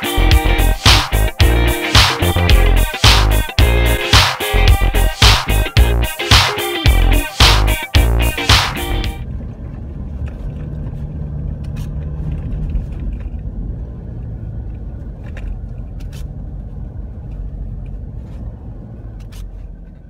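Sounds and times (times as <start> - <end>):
car engine rumbling: 0.0 - 6.2, 6.9 - 20.0.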